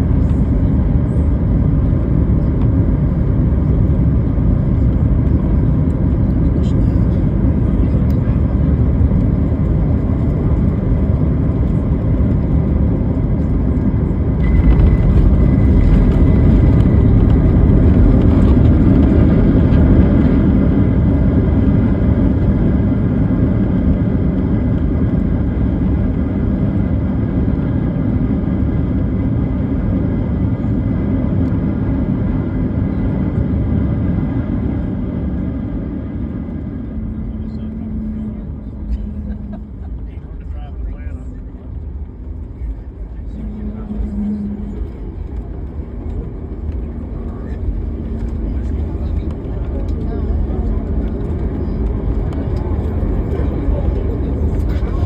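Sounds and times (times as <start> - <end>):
engines and wheels rumbling: 0.0 - 55.0.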